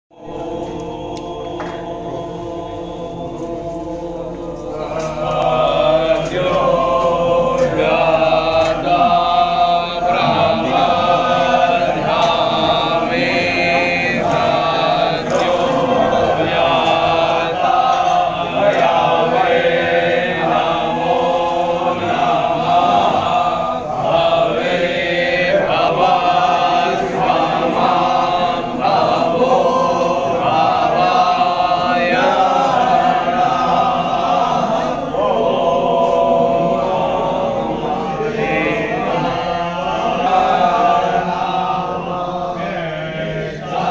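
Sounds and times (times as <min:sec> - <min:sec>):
group chanting a hymn: 0:00.1 - 0:43.9.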